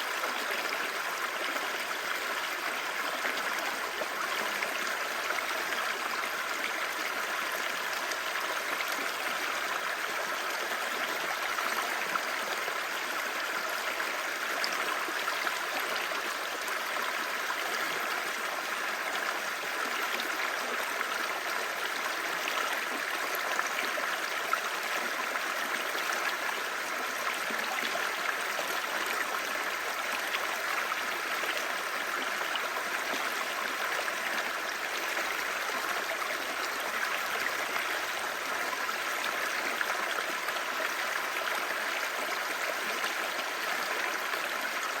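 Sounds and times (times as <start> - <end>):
stream babbling: 0.0 - 45.0.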